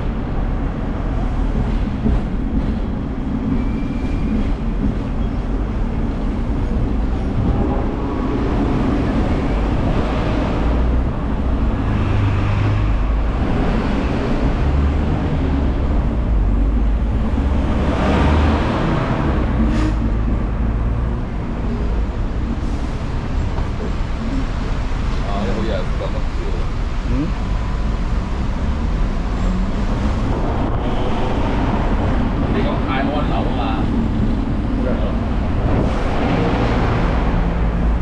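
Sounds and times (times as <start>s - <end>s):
tram rumbling on rails: 0.0s - 38.0s.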